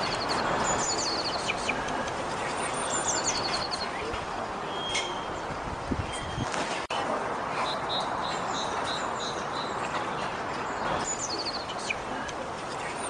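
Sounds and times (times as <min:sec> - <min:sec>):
small songbirds chirping: 0:00.0 - 0:06.5, 0:07.6 - 0:13.0
steady background hiss: 0:00.0 - 0:13.0.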